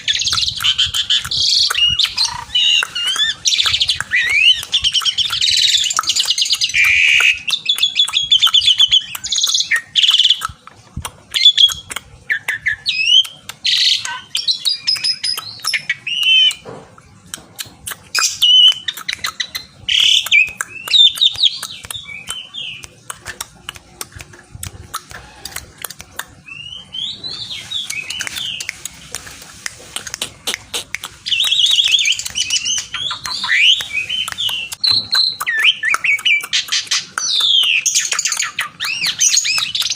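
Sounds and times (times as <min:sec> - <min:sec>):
starling singing whistles and chatter: 0:00.0 - 0:10.5, 0:11.3 - 0:16.6, 0:18.1 - 0:22.9, 0:26.4 - 0:28.9, 0:30.2 - 0:39.9.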